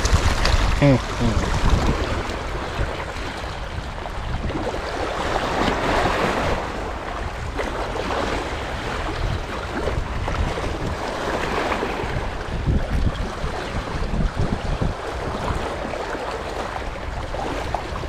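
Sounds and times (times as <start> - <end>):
sea water washing: 0.0 - 18.0
wind noise on microphone: 0.0 - 18.0.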